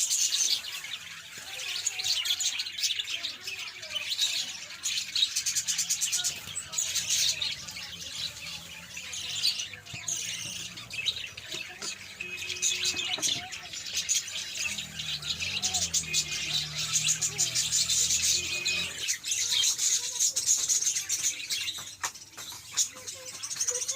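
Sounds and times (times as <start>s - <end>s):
parrots chirping and squawking: 0.0s - 23.9s.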